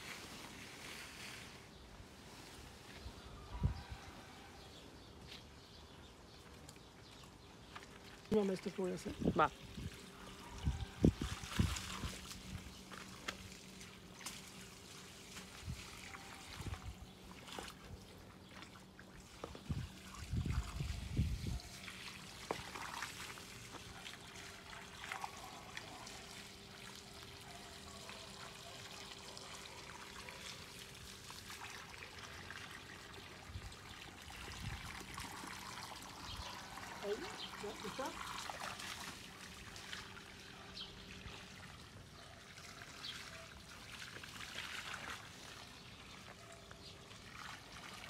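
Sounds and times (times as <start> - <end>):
water trickling from hose: 5.6 - 48.0.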